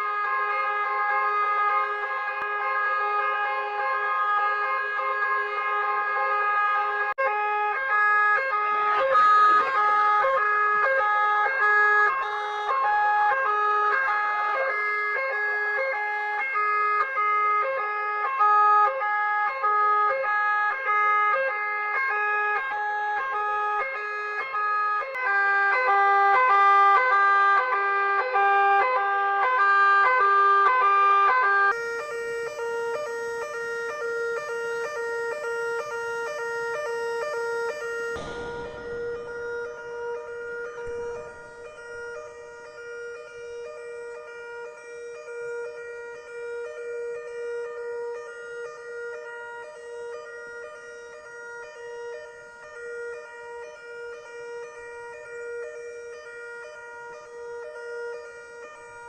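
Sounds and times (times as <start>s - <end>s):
two-tone fire alarm: 0.0s - 59.0s.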